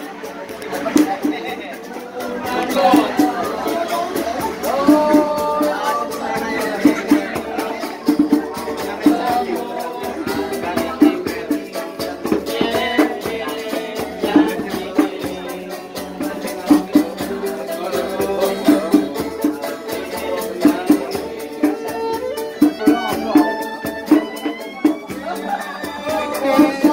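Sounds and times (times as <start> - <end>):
shaker rhythm: 0.0 - 26.9
street band playing: 0.0 - 26.9.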